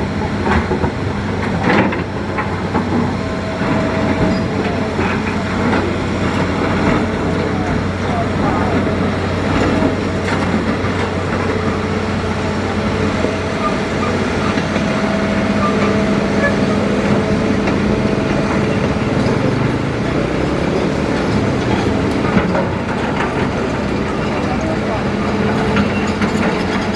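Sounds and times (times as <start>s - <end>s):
excavator engine and hydraulics: 0.0s - 26.9s.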